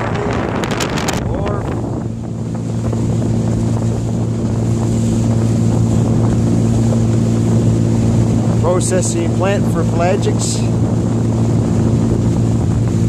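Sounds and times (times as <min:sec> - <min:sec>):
boat motor humming: 0:00.0 - 0:13.0
water rushing: 0:00.0 - 0:13.0
wind: 0:00.0 - 0:13.0.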